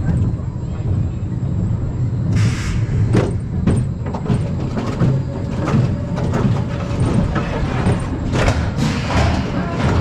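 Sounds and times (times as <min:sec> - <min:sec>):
roller coaster clacks and rattles: 0:00.0 - 0:10.0
roller coaster rumbling on track: 0:00.0 - 0:10.0.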